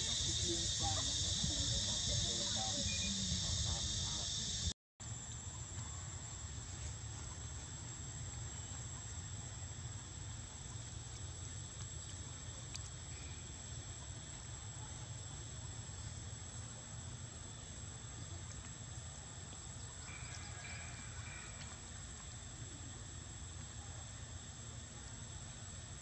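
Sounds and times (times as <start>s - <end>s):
insects droning: 0.0s - 26.0s
low steady rumble: 0.0s - 26.0s.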